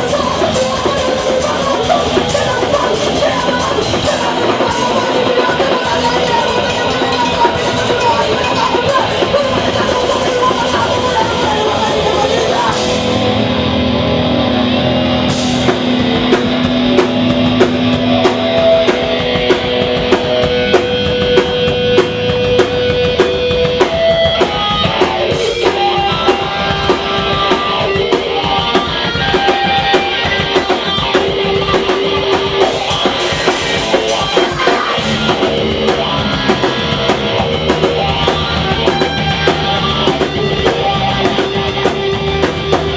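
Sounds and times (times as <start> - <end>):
distorted electric guitars: 0.0 - 42.9
drum kit: 0.0 - 42.9.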